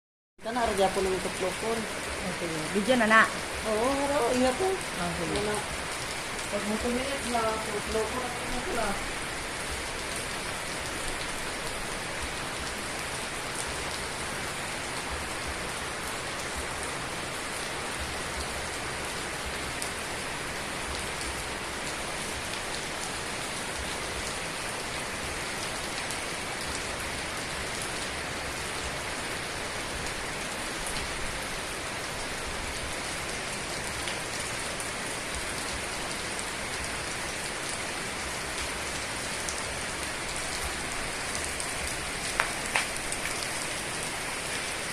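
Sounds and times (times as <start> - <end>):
heavy rain falling: 0.4 - 44.9.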